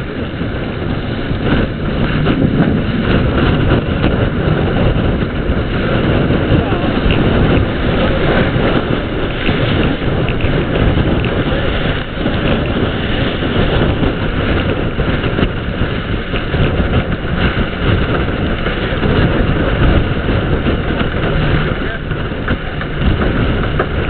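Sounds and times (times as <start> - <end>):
boat sailing at high speed: 0.0 - 24.0
wind buffeting microphone: 0.0 - 24.0.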